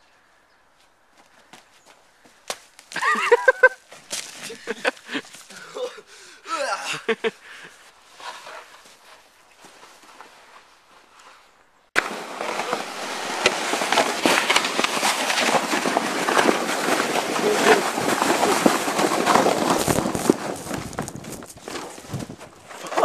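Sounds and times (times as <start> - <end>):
sled sliding over snow: 2.9 - 5.7, 6.9 - 23.0.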